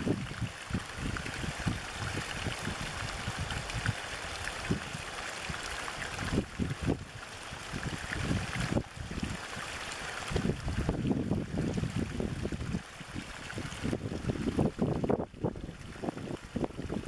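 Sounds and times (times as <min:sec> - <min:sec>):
stream of water pouring into pool: 0:00.0 - 0:17.0.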